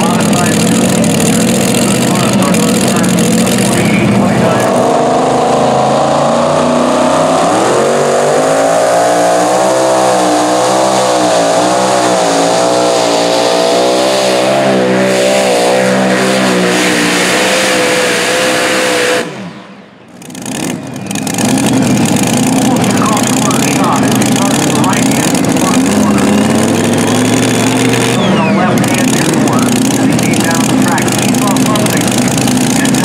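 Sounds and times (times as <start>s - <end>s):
lower engine sound: 0.0s - 33.0s
tractor engine at full throttle: 0.0s - 33.0s.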